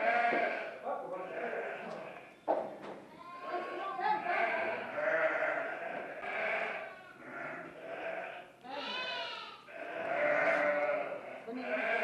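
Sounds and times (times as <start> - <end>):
lambs bleating: 0.0 - 2.3, 3.1 - 12.0.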